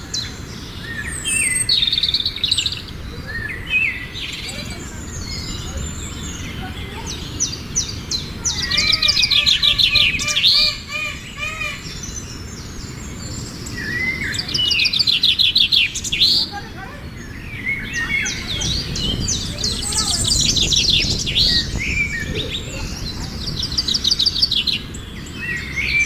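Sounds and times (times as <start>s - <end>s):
birds chirping trills: 0.0s - 26.0s
lower arched bird calls: 0.0s - 26.0s.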